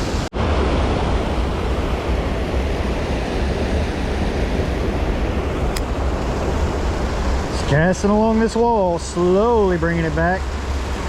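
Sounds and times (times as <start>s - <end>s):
fast creek water rushing: 0.0s - 11.0s
wind rumbling on microphone: 0.0s - 11.0s.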